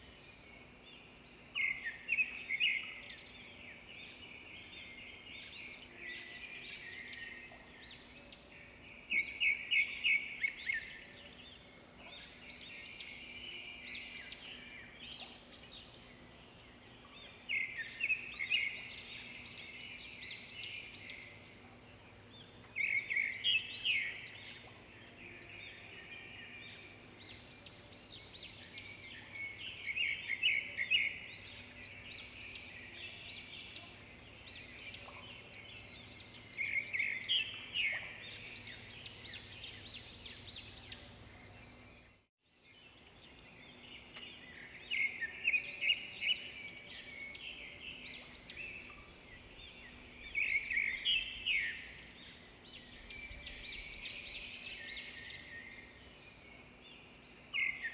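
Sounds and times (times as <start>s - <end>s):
bird trilling song: 0.0s - 57.9s
birds chirping: 0.0s - 57.9s.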